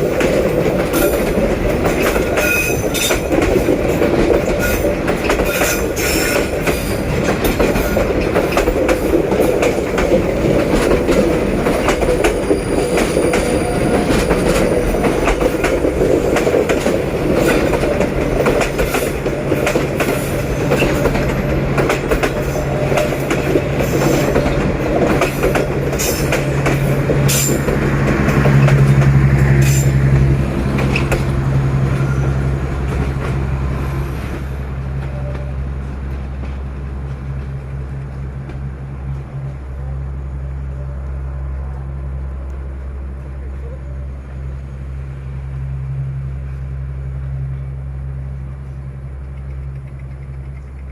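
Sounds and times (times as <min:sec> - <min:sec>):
locomotive engine drone: 0:00.0 - 0:50.9.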